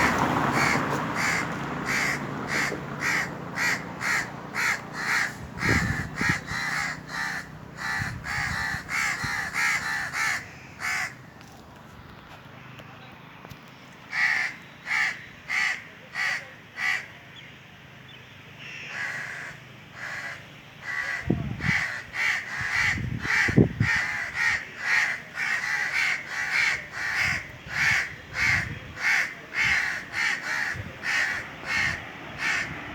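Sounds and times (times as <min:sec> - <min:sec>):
crows cawing: 0:00.0 - 0:11.4, 0:14.1 - 0:17.2, 0:18.6 - 0:32.9.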